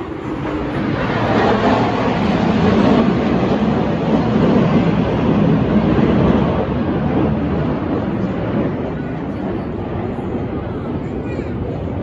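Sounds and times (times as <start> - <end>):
fighter jets flying overhead: 0.0 - 12.0.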